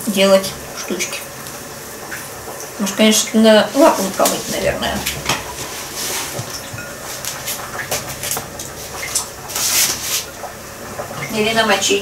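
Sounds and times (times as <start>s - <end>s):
water running from tap: 0.0s - 12.0s.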